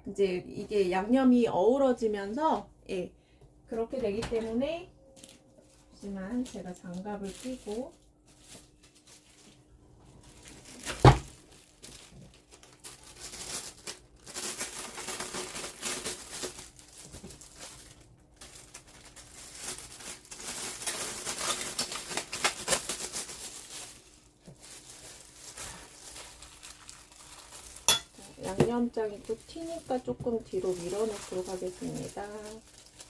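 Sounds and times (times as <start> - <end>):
plastic gloves crinkling: 4.6 - 33.0.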